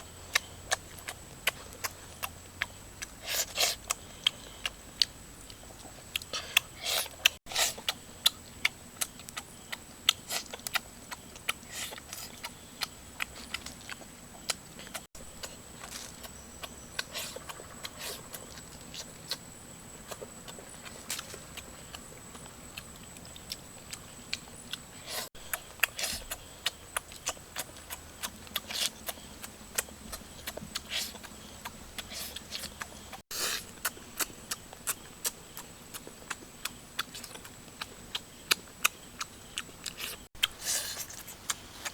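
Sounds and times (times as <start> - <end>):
person chewing and biting: 0.3 - 19.4, 20.0 - 41.9.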